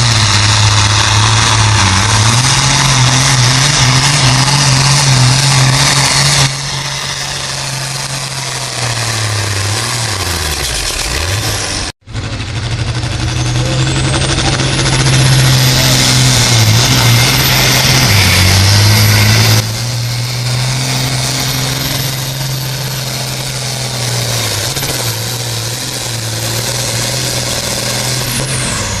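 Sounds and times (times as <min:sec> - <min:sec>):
diesel tractor engine lugging: 0:00.0 - 0:29.0.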